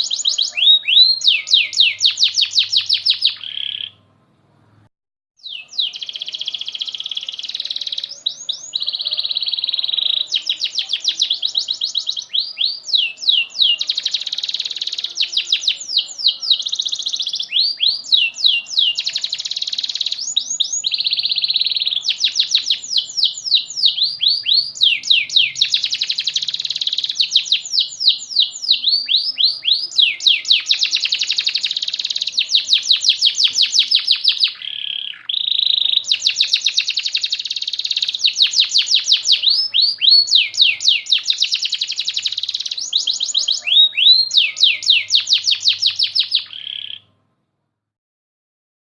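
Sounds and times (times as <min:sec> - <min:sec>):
canary singing trills: 0:00.0 - 0:04.2, 0:05.4 - 0:47.2.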